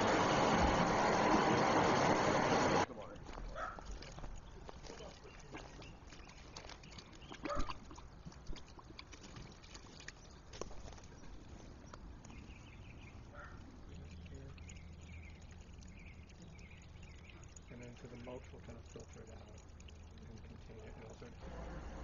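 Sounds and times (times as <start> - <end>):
water flowing from pipe: 0.0 - 22.0.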